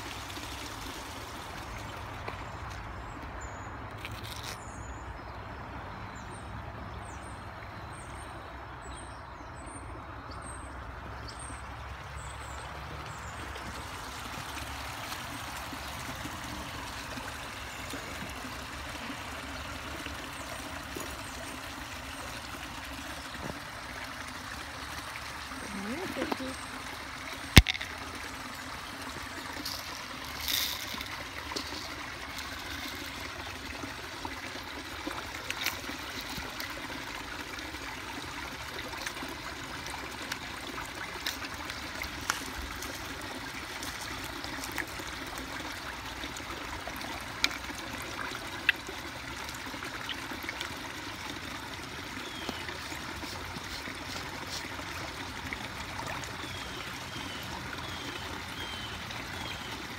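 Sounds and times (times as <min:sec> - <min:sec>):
water trickling into pond: 0:00.0 - 0:59.9.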